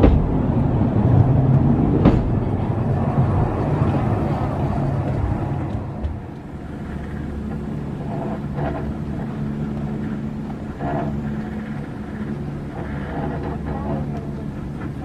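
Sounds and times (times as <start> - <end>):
cable car humming: 0.0 - 15.0.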